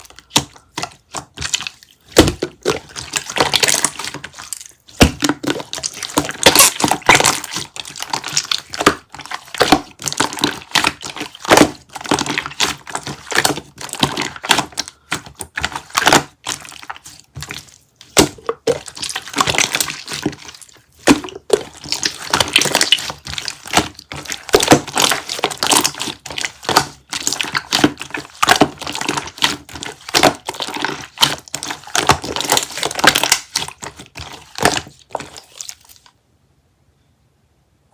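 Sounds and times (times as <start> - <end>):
jelly crackling and snapping: 0.0 - 36.1.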